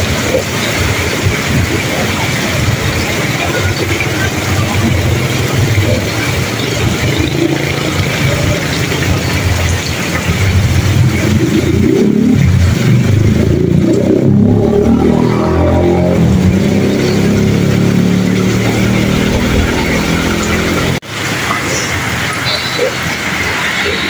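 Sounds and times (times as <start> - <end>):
heavy rain hissing: 0.0 - 24.0
truck engine driving through water: 0.0 - 24.0.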